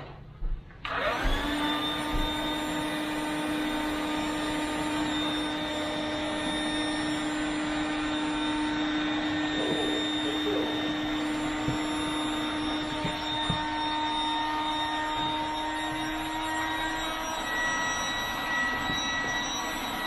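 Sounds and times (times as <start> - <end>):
electric air pump humming: 0.8 - 20.0.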